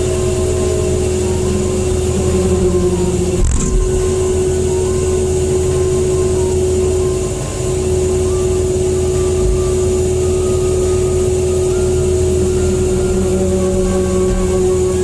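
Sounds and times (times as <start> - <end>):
machine engine humming: 0.0 - 15.0.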